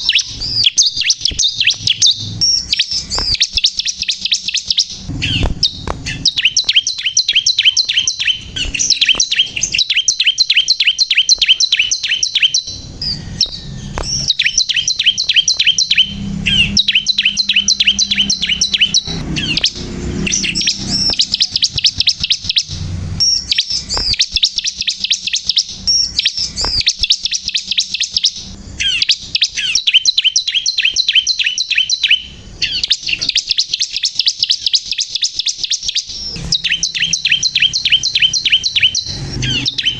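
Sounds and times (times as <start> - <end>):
bird high repeated chirping: 0.0 - 39.9.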